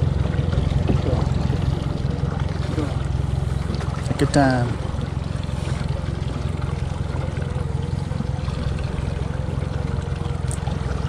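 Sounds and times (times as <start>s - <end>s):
boat engine humming: 0.0s - 11.0s
water washing against hull: 0.0s - 11.0s.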